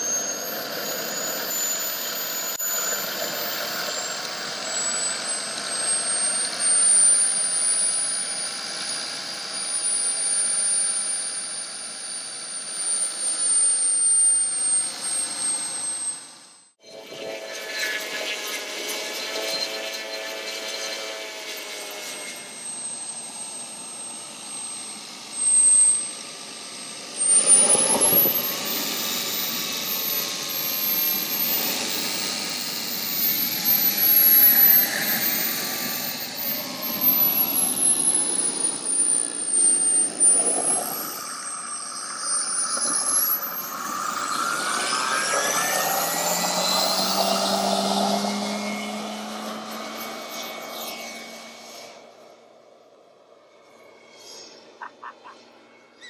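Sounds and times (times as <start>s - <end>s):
high-pitched turbine engine whine: 0.0s - 56.0s.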